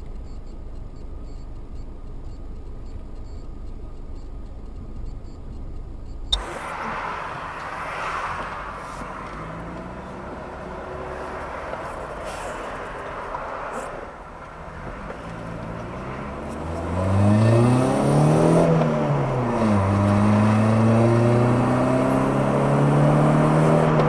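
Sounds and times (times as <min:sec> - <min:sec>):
hissy traffic and road noise: 0:00.0 - 0:24.0
road and engine rumble: 0:00.0 - 0:24.0.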